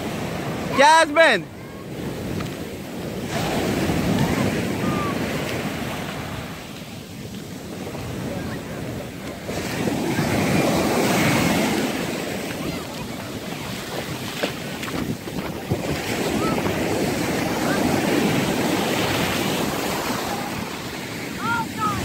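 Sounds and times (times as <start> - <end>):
ocean surf breaking: 0.0 - 22.0
wind buffeting microphone: 1.5 - 22.0.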